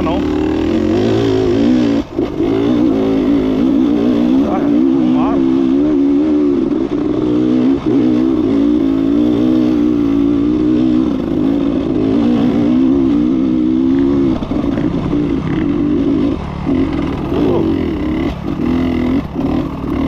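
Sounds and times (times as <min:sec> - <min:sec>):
dirt bike engine running hard: 0:00.0 - 0:20.0.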